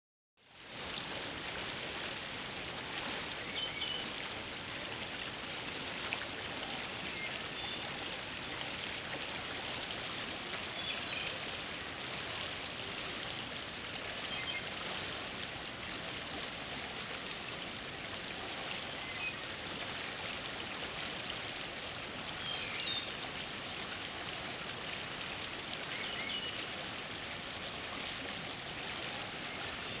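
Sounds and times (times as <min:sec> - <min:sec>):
river flowing: 0:00.4 - 0:30.0.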